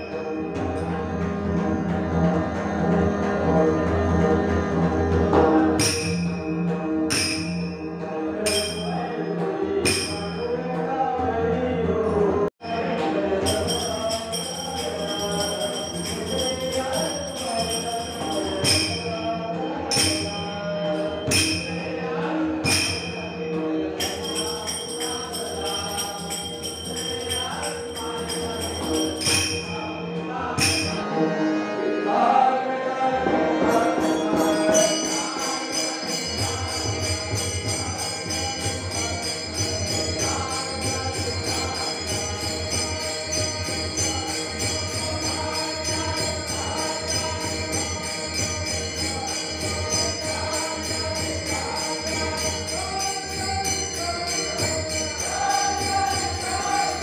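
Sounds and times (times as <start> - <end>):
hand cymbals clashing: 5.8 - 10.6, 12.6 - 22.0, 22.6 - 31.0, 33.8 - 57.0
group singing: 7.8 - 57.0.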